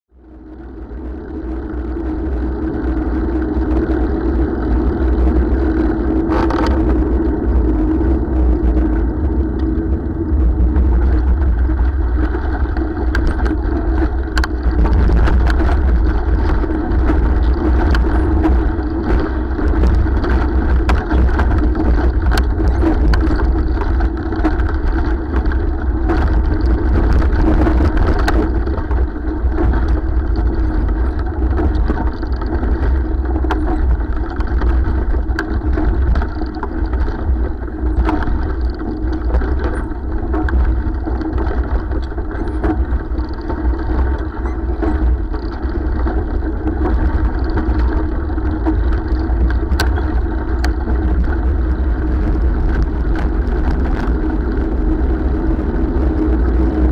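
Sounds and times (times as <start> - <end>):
wind and tyres on tarmac: 0.1 - 56.9.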